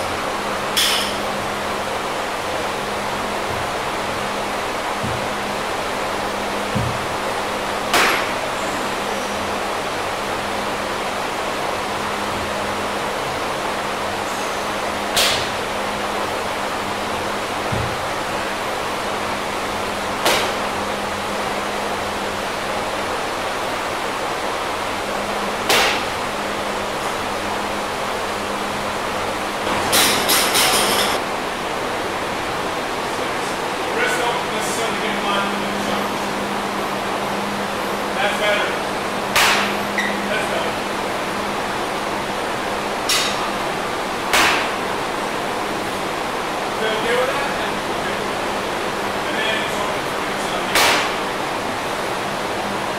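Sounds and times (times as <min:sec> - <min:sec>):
room noise hiss: 0:00.0 - 0:52.9.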